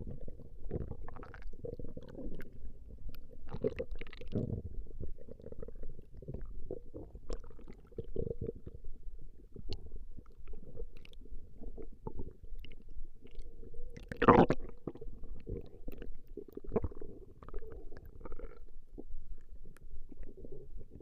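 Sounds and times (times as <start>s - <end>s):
stomach growling and gurgling: 0.0s - 21.0s.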